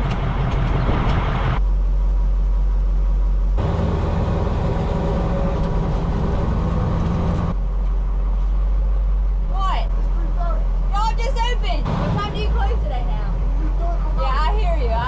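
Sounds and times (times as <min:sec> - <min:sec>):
heavy diesel engines running: 0:00.0 - 0:15.0.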